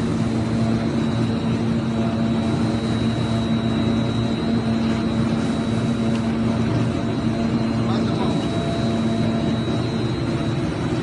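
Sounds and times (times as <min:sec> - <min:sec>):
high-pitched whine: 0:00.0 - 0:11.0
machine hum: 0:00.0 - 0:11.0.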